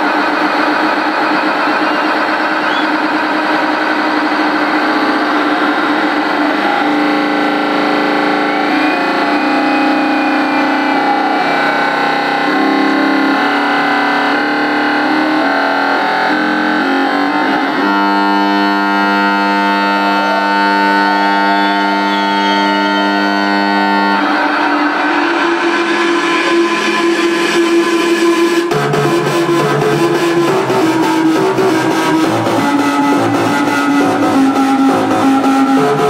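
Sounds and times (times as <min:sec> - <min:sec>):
sustained synthesizer chords: 0:00.0 - 0:36.0
trance music over sound system: 0:00.0 - 0:36.0.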